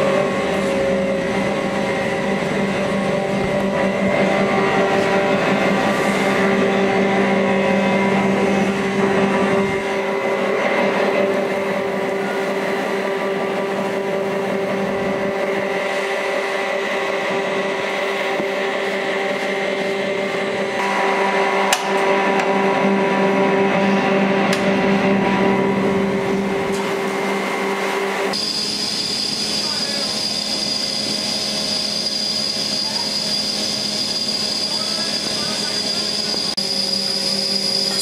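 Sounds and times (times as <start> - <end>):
constant machine hum: 0.0 - 38.0.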